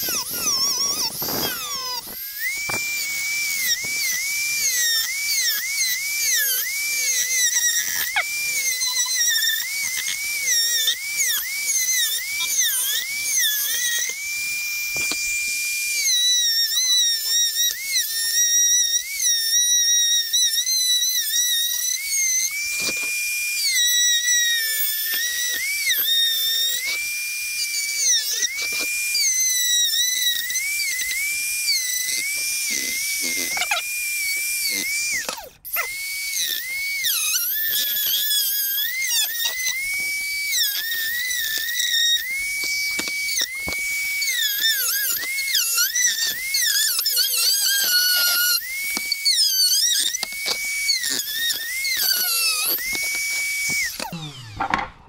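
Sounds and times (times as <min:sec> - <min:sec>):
rotary tool cutting plastic: 0:00.0 - 0:55.0.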